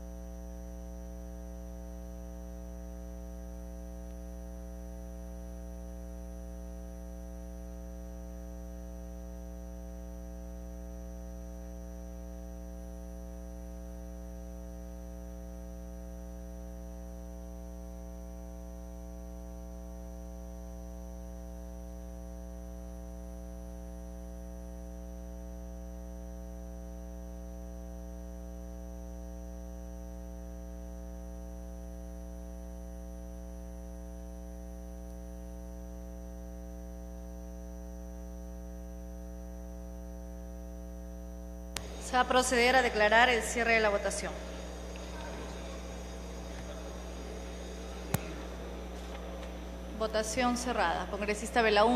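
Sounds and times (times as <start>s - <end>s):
electrical mains hum: 0.0s - 51.9s
faint high whine: 0.0s - 51.9s.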